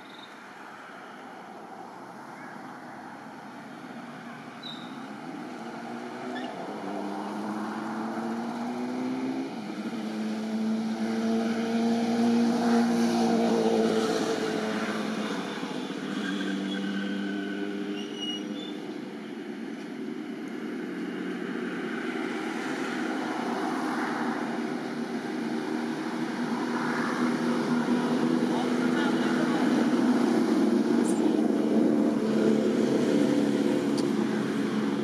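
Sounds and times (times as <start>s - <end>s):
engine passing by: 0.8s - 18.0s, 20.7s - 35.0s.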